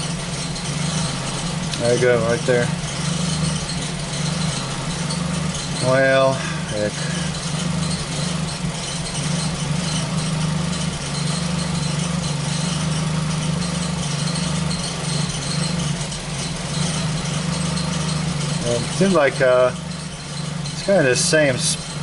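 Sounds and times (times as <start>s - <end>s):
car engine idling: 0.0s - 22.0s
engine misfire: 0.0s - 22.0s.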